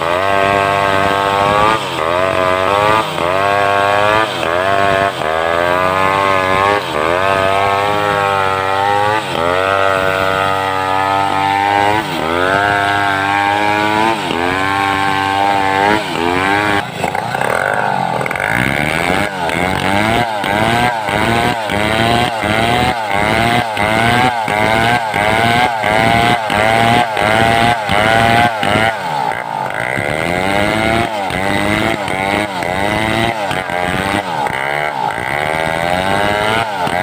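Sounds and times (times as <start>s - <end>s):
chainsaw ripping a log: 0.0s - 37.0s.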